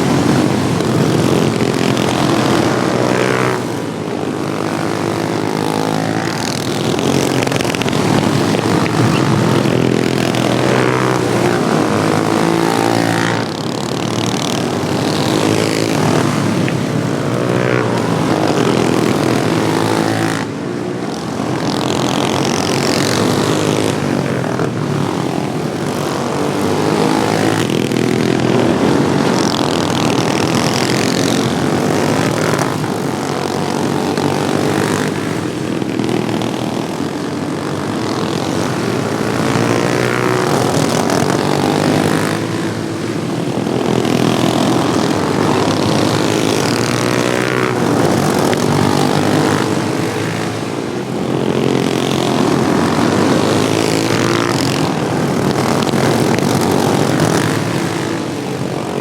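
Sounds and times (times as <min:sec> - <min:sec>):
lawn tractor engines buzzing: 0:00.0 - 0:59.0.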